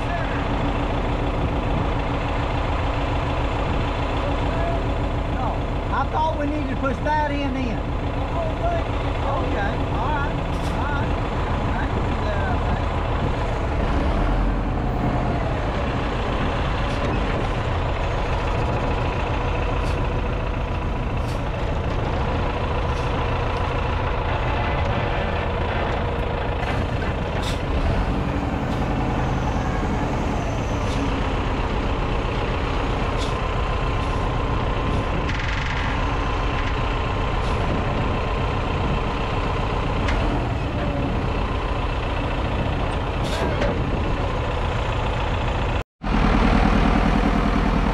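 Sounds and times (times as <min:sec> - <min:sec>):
engine running with low rumble: 0:00.0 - 0:47.9.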